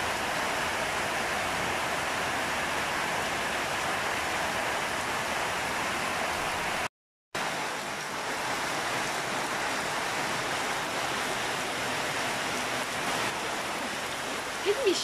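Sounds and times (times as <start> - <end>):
heavy rain on leaves: 0.0 - 15.0.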